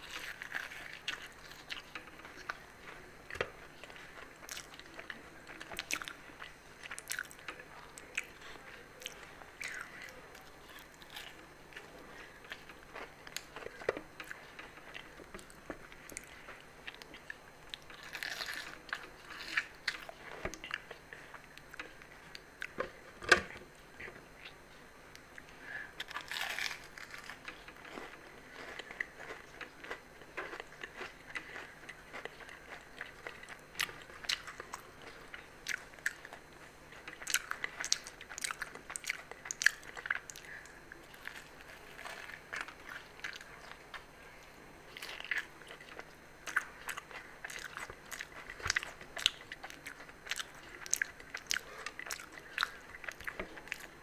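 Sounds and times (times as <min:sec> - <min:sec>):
chewing: 0:00.0 - 0:22.9, 0:23.5 - 0:54.0
crisp pastry crunching: 0:00.0 - 0:23.6, 0:24.5 - 0:54.0.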